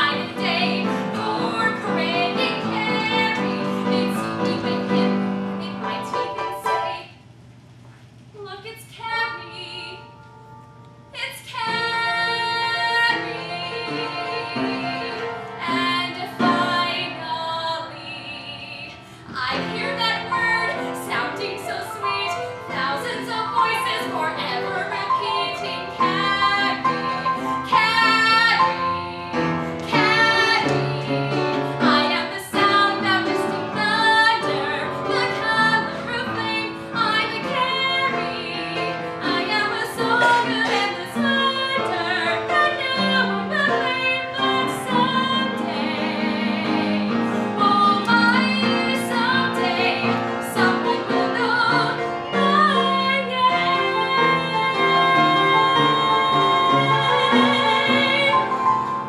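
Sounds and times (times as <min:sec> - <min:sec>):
woman singing: 0:00.0 - 0:07.1, 0:08.4 - 0:10.2, 0:11.1 - 0:58.6
piano accompaniment: 0:00.0 - 0:07.3, 0:09.1 - 0:59.0.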